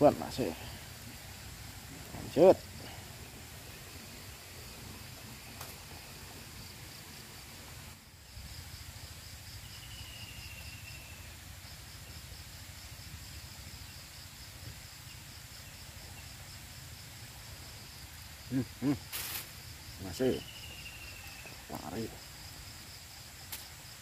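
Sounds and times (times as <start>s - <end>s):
insect chirping: 0.0s - 24.0s
low background hiss: 0.0s - 24.0s.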